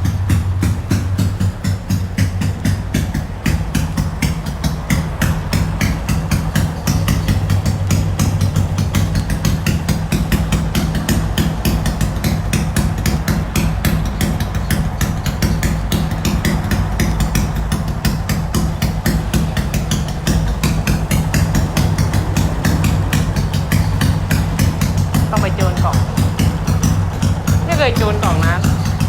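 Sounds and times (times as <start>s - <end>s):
motorcycle idling with popping exhaust: 0.0s - 29.0s.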